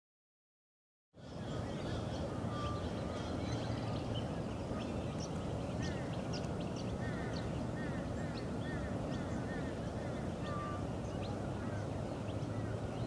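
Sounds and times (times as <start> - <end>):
bird chirps and calls: 1.2 - 13.0.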